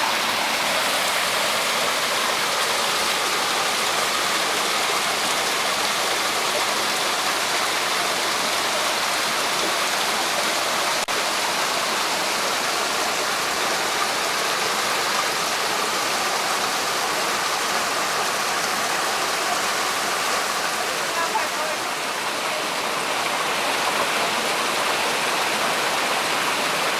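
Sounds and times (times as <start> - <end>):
creek water rushing over rocks: 0.0 - 26.9.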